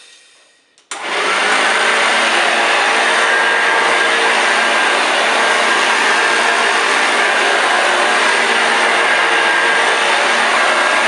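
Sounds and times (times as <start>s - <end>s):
vacuum cleaner motor running: 0.9s - 11.0s.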